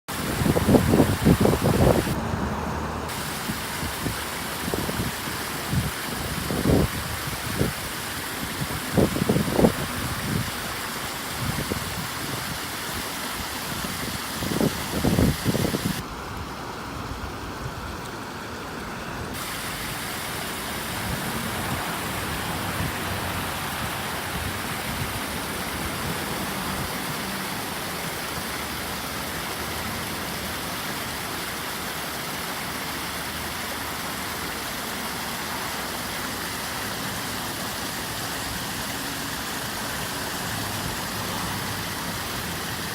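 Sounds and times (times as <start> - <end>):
waterfall rushing: 0.1 - 17.0, 18.2 - 42.9.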